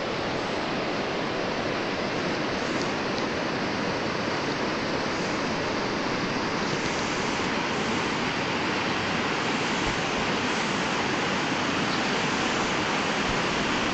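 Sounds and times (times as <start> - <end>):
water rushing over rocks: 0.0 - 13.9.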